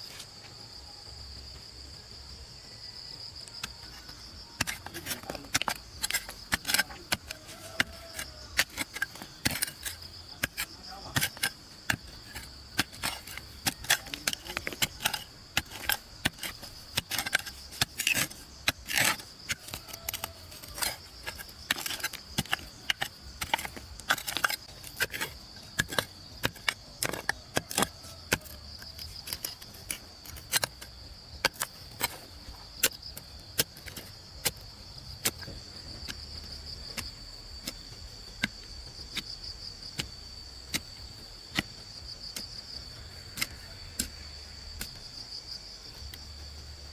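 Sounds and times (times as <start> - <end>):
high insect drone: 0.0 - 46.9
sharp irregular clicks and knocks: 3.5 - 45.2.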